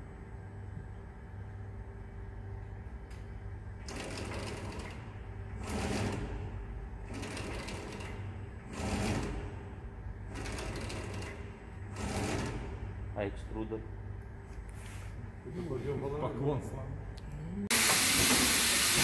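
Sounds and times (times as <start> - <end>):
steady low machine hum: 0.0 - 19.0.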